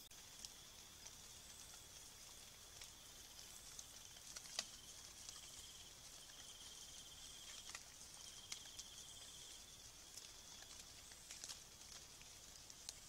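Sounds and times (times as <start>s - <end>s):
high insect hiss: 0.0s - 13.0s
night insects trilling: 0.0s - 13.0s
sharp ticks in leaf litter: 0.0s - 13.0s.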